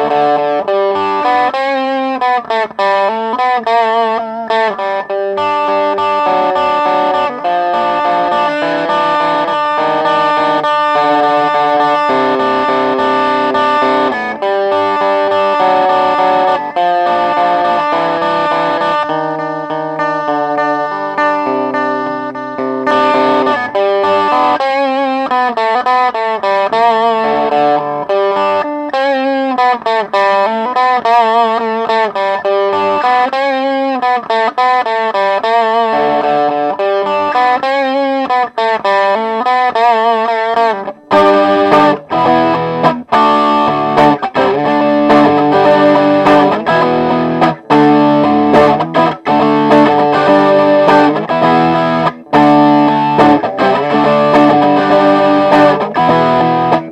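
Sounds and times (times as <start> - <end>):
overdriven electric guitar: 0.0 - 56.9.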